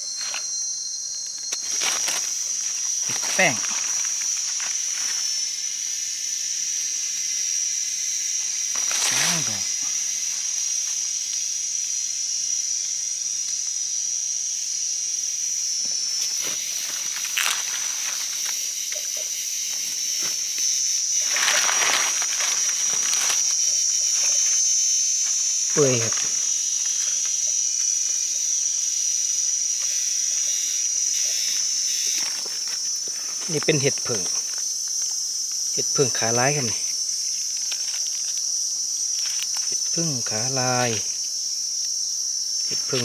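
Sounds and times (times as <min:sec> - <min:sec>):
high-pitched insect drone: 0:00.0 - 0:43.0.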